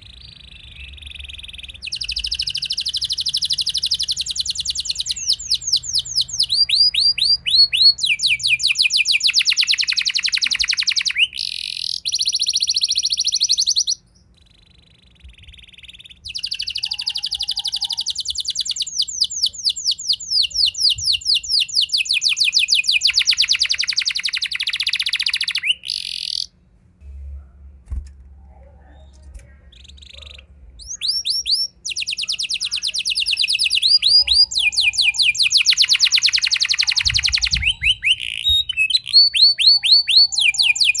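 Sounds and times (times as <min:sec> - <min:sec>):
canary singing trills: 0:00.0 - 0:26.6, 0:28.8 - 0:41.0.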